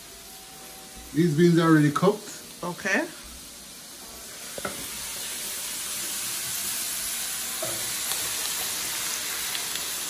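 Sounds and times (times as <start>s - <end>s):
food sizzling in a pot: 0.0s - 10.0s.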